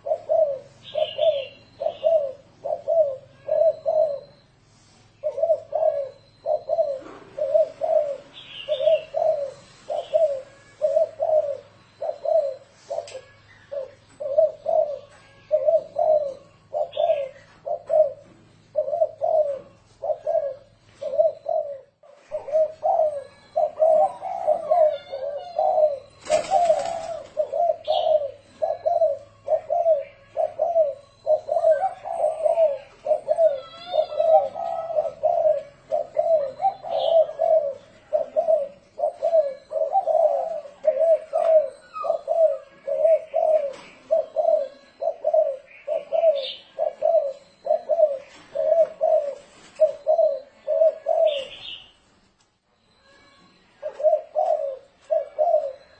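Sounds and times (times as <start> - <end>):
dove cooing: 0.0 - 52.2, 52.8 - 55.9
faint high chirps: 0.0 - 55.9.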